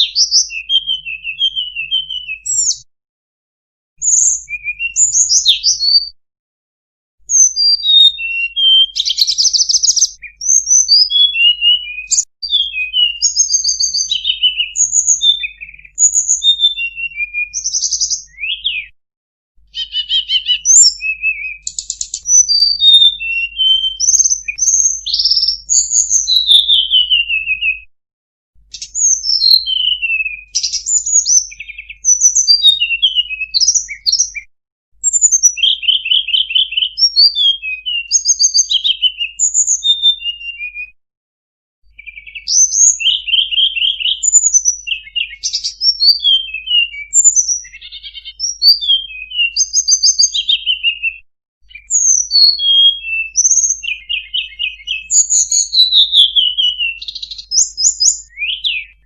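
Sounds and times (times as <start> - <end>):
songbird singing: 0.0 - 2.9, 4.0 - 6.2, 7.3 - 18.9, 19.6 - 27.8, 28.7 - 34.4, 35.0 - 40.8, 41.8 - 59.0.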